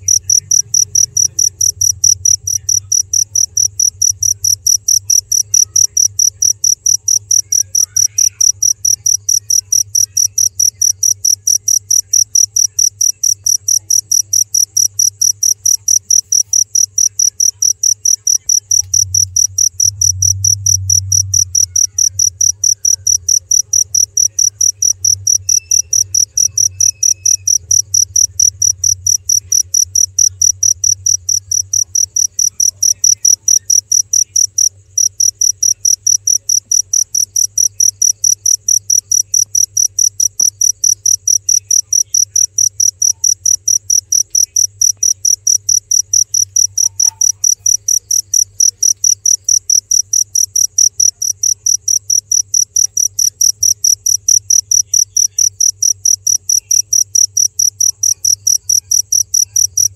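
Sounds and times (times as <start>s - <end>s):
cricket chirping: 0.0s - 59.9s
faint low hum: 0.0s - 59.9s.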